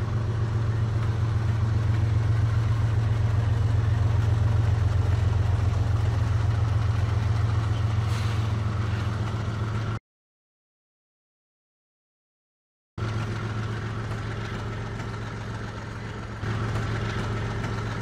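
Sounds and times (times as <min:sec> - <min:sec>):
locomotive engine drone: 0:00.0 - 0:10.0, 0:13.0 - 0:18.0.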